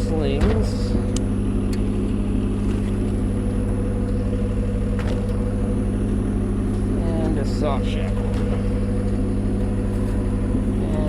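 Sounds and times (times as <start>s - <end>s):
engine at raised idle: 0.0s - 11.0s.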